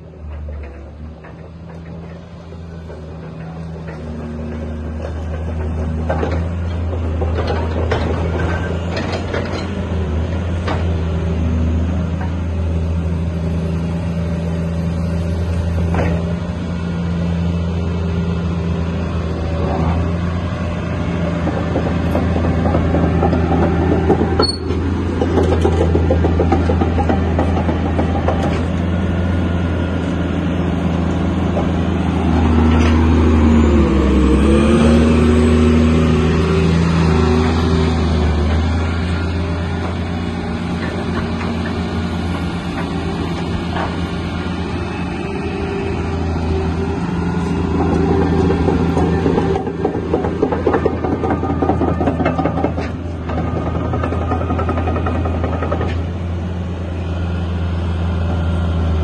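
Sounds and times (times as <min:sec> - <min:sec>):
diesel excavator engine idling: 0:00.0 - 0:59.0.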